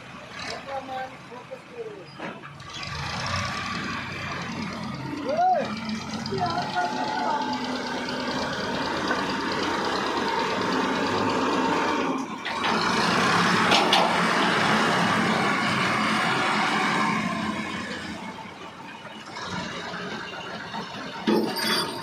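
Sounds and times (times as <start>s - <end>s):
machinery engine drone: 2.5s - 22.0s.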